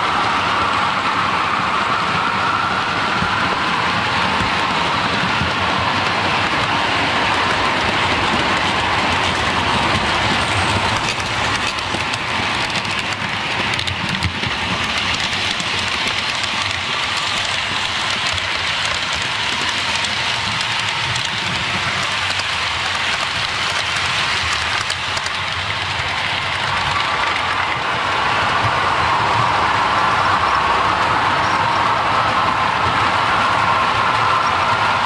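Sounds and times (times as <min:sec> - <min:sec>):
model train wheels rumbling: 0:00.0 - 0:35.0.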